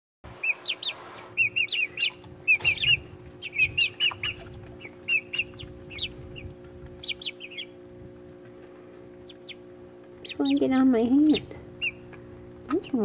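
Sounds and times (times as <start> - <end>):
chicks peeping: 0.3 - 13.0.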